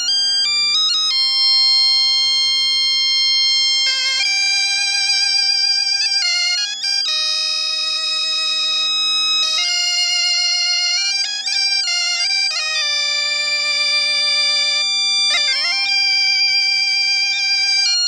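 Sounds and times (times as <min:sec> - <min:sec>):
bagpipe drone: 0:00.0 - 0:18.0
reed pipe melody: 0:00.0 - 0:18.0.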